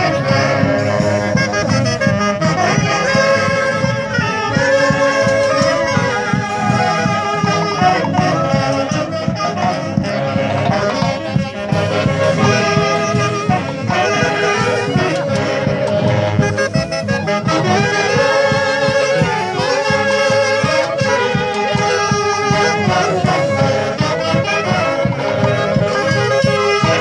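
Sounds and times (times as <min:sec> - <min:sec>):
brass band playing dance tune: 0:00.0 - 0:27.0.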